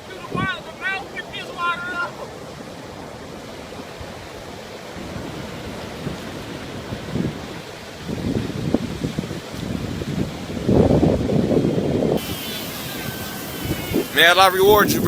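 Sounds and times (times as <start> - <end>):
surf washing on beach: 0.0 - 15.0
wind on microphone: 2.3 - 15.0.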